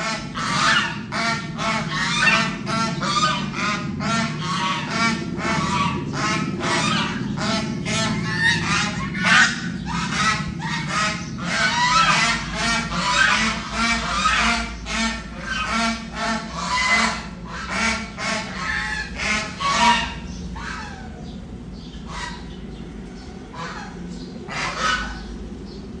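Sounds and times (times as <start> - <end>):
geese honking: 0.0 - 25.9.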